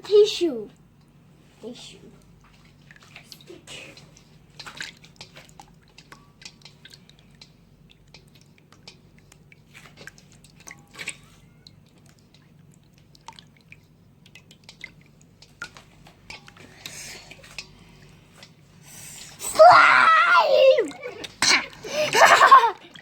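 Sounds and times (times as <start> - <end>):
slime squishing in water: 1.6 - 23.0.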